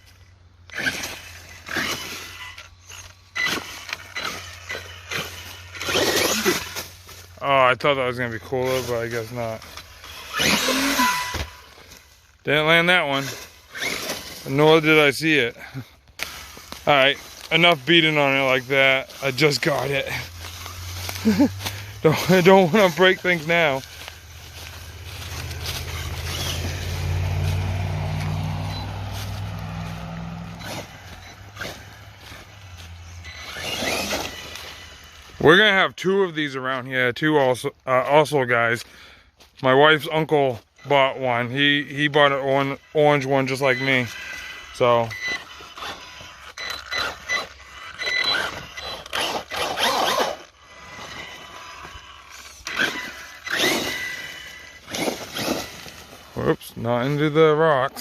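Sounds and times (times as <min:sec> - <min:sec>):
low motor hum: 0:00.0 - 0:07.4, 0:08.4 - 0:12.5, 0:13.2 - 0:35.4, 0:43.8 - 0:57.3
tires scraping over rocks: 0:00.0 - 0:58.0.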